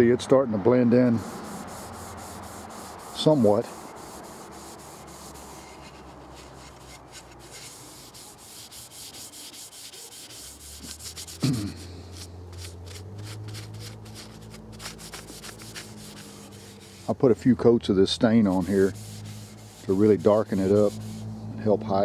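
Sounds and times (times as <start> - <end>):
paper towel rubbing on wood: 1.1 - 17.3, 18.3 - 21.8.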